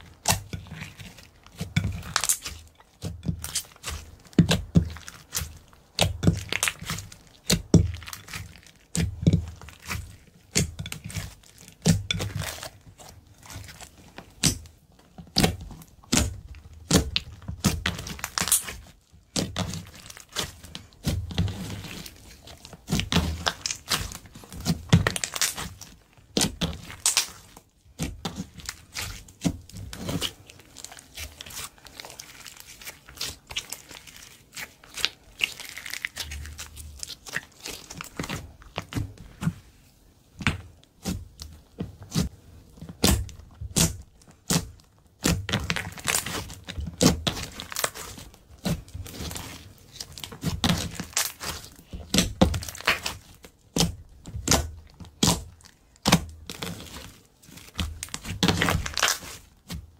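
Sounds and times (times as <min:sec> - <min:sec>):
hands squishing slime: 0:00.0 - 0:59.9.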